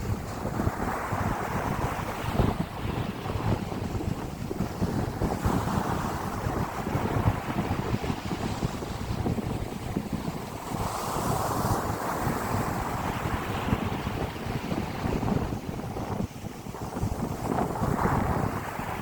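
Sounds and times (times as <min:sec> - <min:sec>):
wind blowing on microphone: 0:00.0 - 0:19.0.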